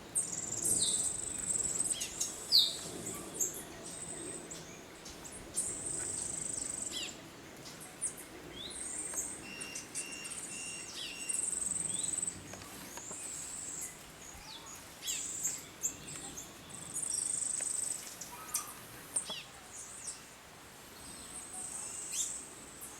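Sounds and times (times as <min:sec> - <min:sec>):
faint insects: 0:00.1 - 0:22.9.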